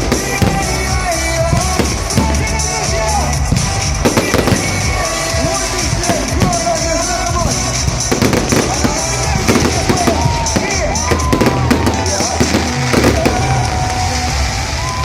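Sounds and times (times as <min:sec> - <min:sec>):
fireworks bursting and crackling: 0:00.0 - 0:15.0
music with steady beat: 0:00.0 - 0:15.0
person singing: 0:00.0 - 0:15.0.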